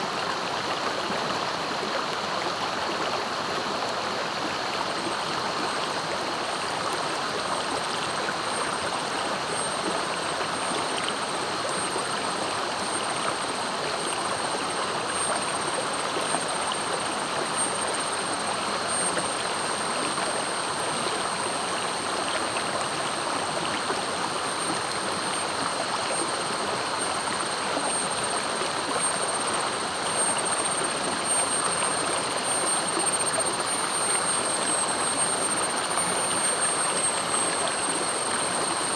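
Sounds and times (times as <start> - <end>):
steady high-pitched tone: 5.9 - 38.9.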